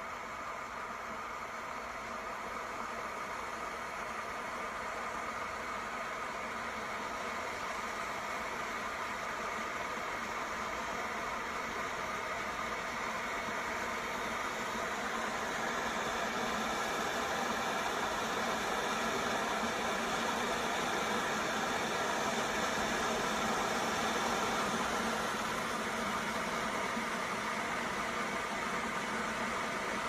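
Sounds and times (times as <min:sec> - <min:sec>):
electric kettle heating water: 0:00.0 - 0:30.0.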